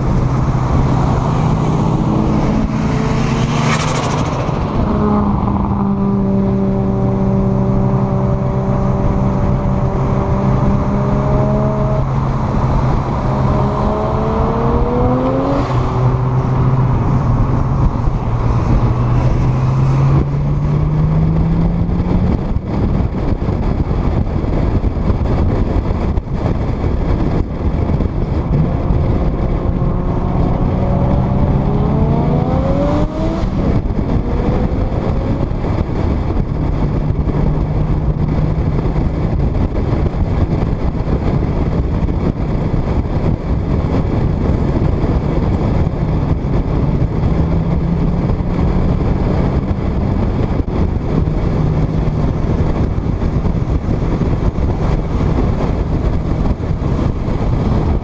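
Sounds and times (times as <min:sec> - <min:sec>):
car engine accelerating hard: 0:00.0 - 0:58.0
wind rushing over microphone: 0:00.0 - 0:58.0.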